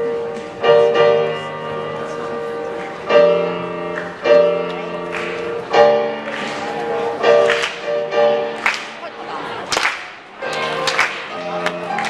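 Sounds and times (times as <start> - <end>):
grand piano: 0.0 - 9.7, 10.3 - 12.0.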